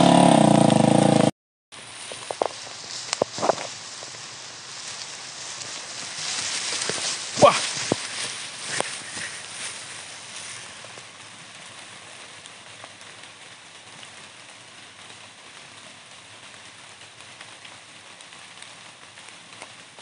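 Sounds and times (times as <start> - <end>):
light drizzle on leaves: 1.8 - 20.0.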